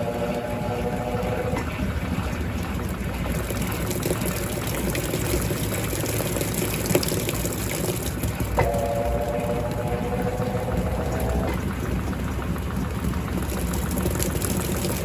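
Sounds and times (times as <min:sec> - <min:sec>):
washing machine motor humming: 0:00.0 - 0:15.0
water churning in washing machine: 0:00.0 - 0:15.0.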